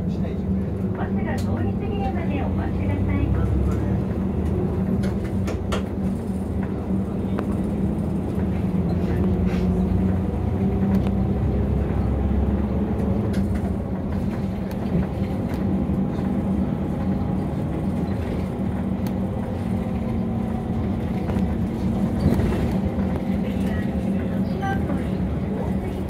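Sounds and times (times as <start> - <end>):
bus diesel engine drone: 0.0 - 26.0.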